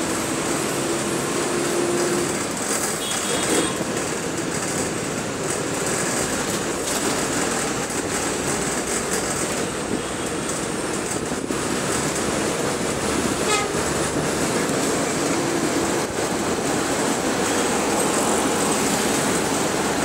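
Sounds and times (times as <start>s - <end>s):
bus engine running: 0.0s - 20.0s
road and wind noise: 0.0s - 20.0s.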